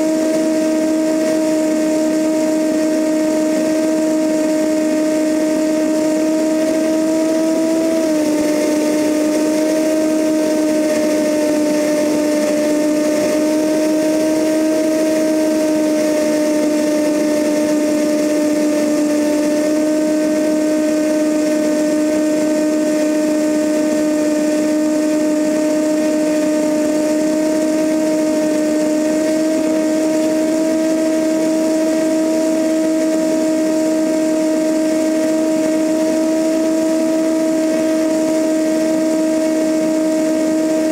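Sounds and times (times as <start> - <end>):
airplane engine and propeller drone: 0.0 - 40.9.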